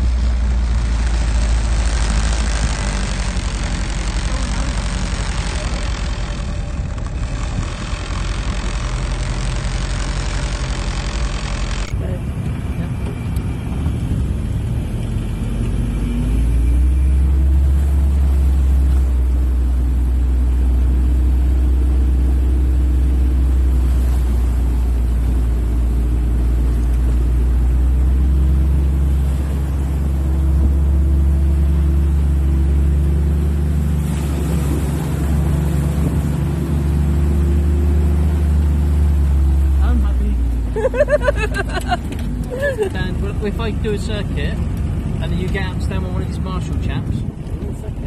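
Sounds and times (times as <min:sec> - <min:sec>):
engine deep rumble: 0:00.0 - 0:48.0.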